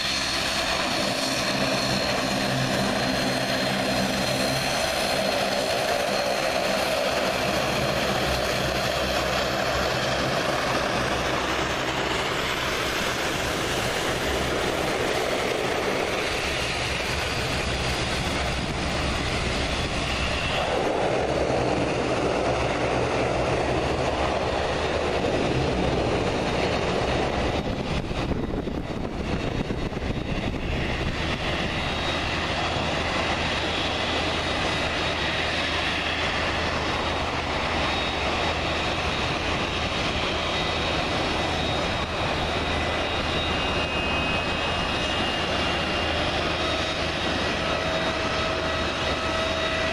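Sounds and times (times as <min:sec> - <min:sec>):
jet engines running: 0:00.0 - 0:49.9
turboprop propellers taxiing: 0:00.0 - 0:49.9.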